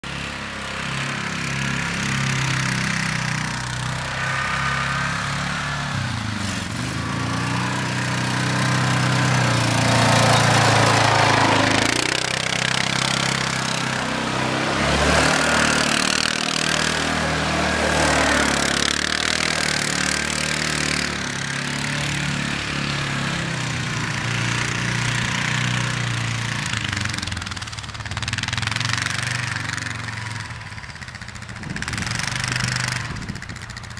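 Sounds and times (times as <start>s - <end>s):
quad bike engine revving: 0.0s - 33.9s.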